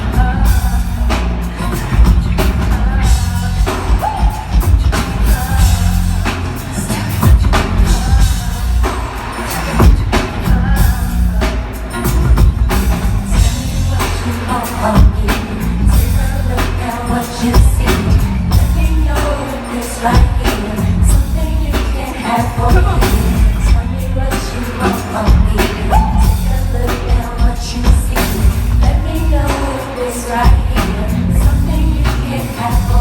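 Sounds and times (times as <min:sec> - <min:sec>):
bass line: 0:00.0 - 0:33.0
drum kit beat: 0:00.0 - 0:33.0
person singing: 0:00.0 - 0:33.0.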